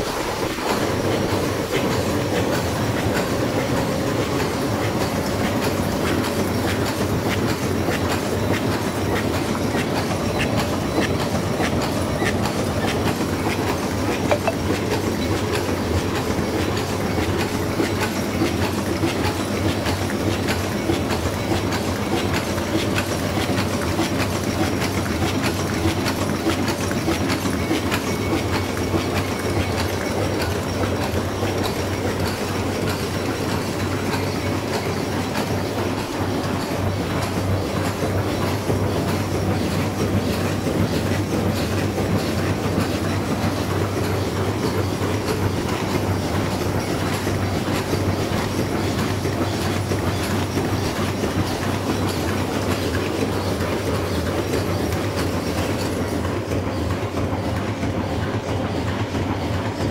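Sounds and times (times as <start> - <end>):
machines clattering: 0.0 - 59.9.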